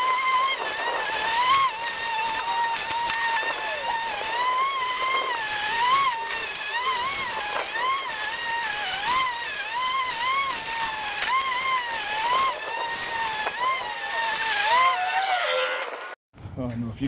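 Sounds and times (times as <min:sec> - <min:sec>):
electric lawn mower whine: 0:00.0 - 0:16.2.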